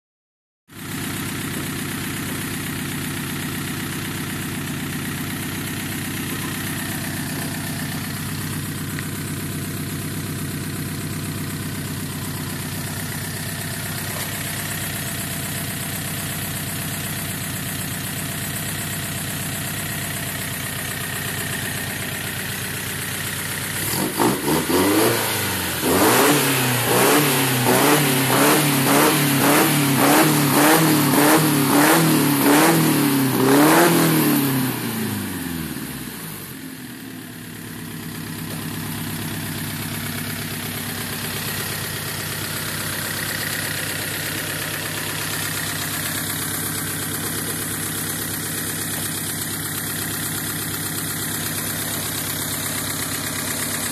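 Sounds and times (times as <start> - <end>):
car engine idling and revving: 0.7 - 53.9.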